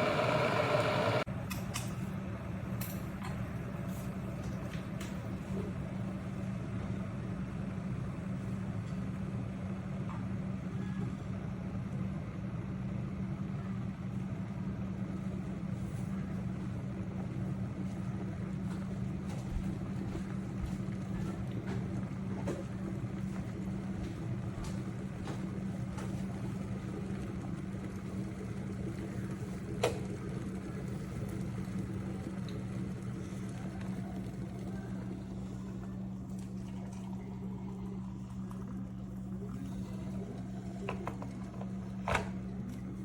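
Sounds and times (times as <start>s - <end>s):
electric kettle rumbling: 0.0s - 8.6s, 12.5s - 43.0s.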